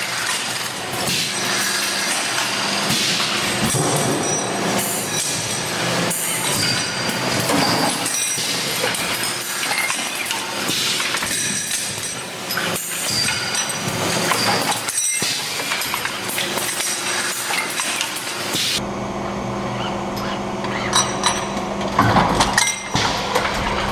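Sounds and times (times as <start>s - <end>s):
machine clattering and clinking: 0.0s - 18.8s, 20.6s - 23.9s
constant motor hum: 0.0s - 23.9s.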